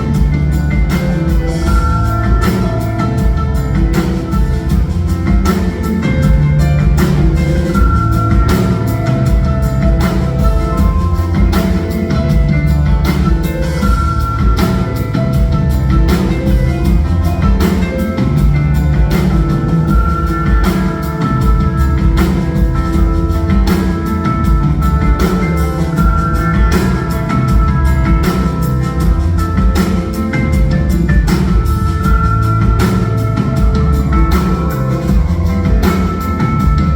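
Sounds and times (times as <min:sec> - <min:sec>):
bass: 0:00.0 - 0:36.9
drum kit steady beat: 0:00.0 - 0:36.9
held keyboard notes: 0:00.0 - 0:36.9.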